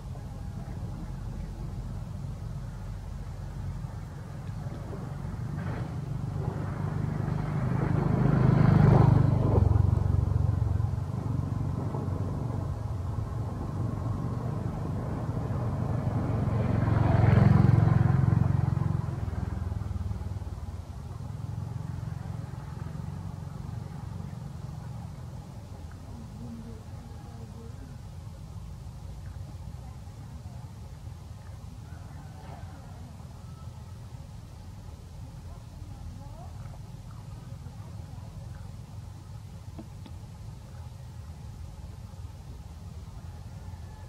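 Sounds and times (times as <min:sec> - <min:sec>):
low steady engine hum: 0:00.0 - 0:44.0
vehicles passing by: 0:00.0 - 0:44.0.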